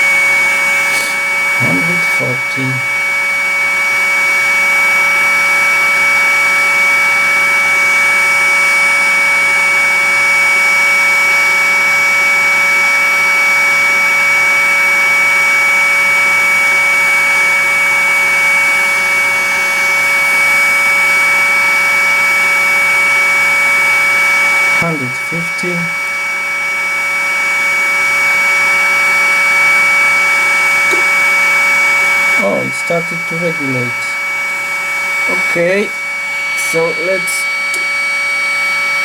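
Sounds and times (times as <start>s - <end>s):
hot-air blower whining: 0.0s - 39.0s.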